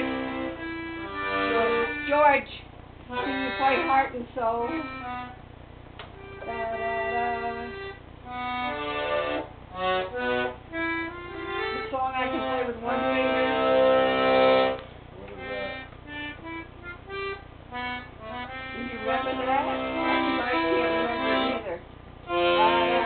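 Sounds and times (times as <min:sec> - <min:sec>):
piano accordion chords: 0:00.0 - 0:23.0.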